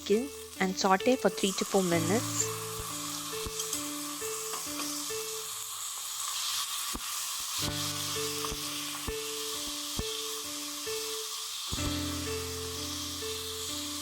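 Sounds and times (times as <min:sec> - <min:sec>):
soft background music: 0:00.0 - 0:06.6, 0:07.5 - 0:14.0
chicken sizzling in hot oil: 0:00.0 - 0:14.0.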